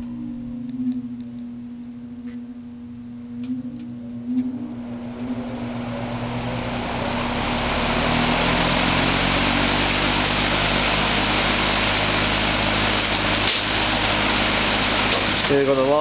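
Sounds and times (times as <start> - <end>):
box fan running: 0.0 - 16.0.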